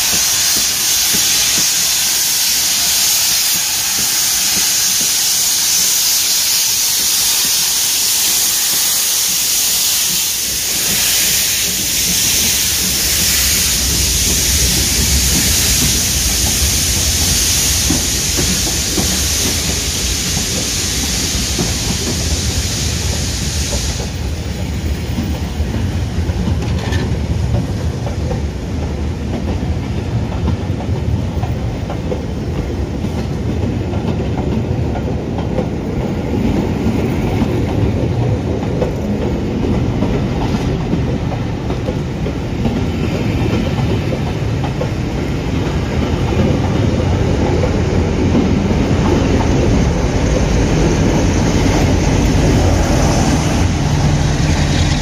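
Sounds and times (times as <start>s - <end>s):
diesel locomotive engine hum: 0.0s - 55.0s
train wheels clattering over rail joints: 9.9s - 55.0s.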